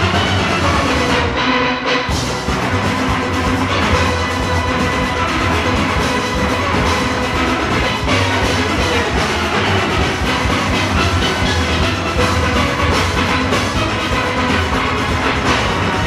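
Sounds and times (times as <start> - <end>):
drums and percussion beat: 0.0 - 16.0
steelpans playing melody: 0.0 - 16.0.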